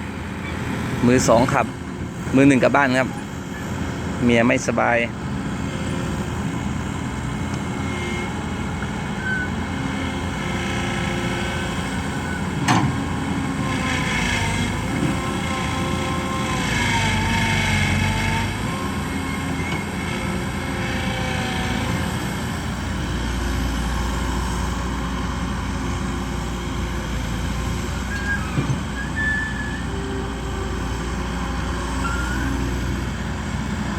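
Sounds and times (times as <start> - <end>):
excavator diesel drone: 0.0 - 33.9.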